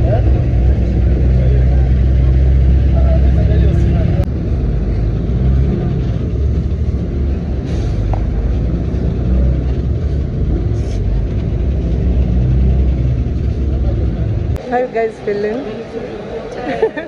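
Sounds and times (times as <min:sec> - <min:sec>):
vehicle rumble from inside cabin: 0:00.0 - 0:14.6.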